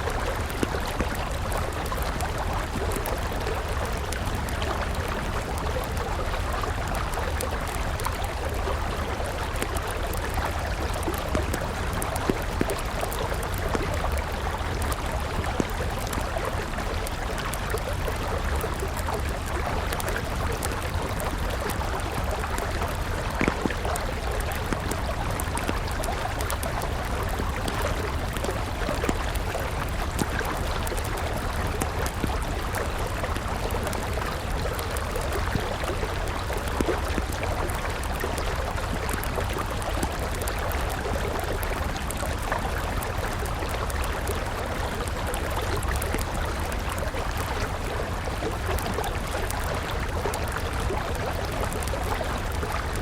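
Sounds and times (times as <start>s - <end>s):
campfire crackling: 0.0s - 53.0s.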